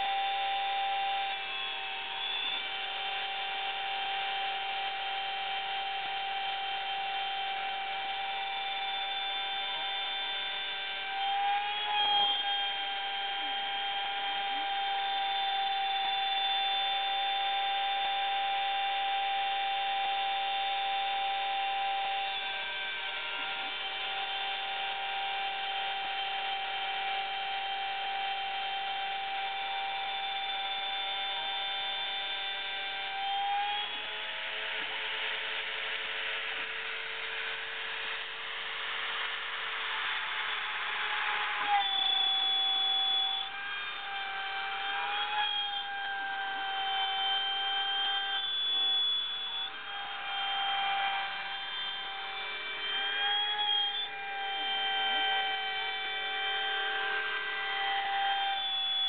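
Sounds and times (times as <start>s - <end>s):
cnc router machine whine: 0.0s - 59.0s.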